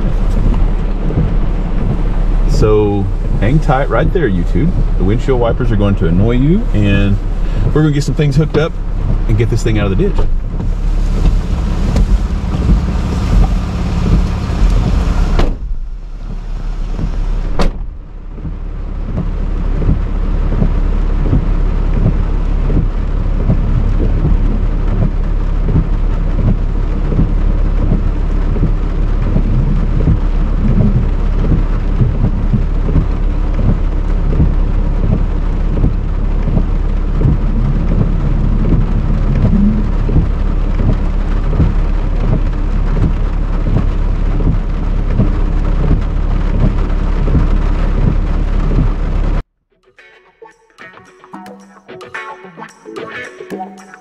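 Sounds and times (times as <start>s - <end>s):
heavy rain drumming on car roof: 0.0s - 49.4s
windshield wipers running: 0.0s - 49.4s.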